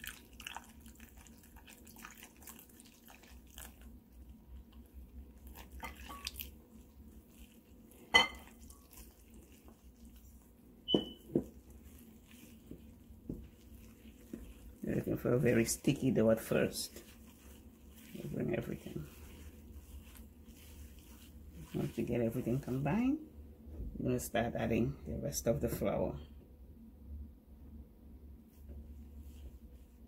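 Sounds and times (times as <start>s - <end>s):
dough squishing in plastic bowl: 0.0s - 26.2s.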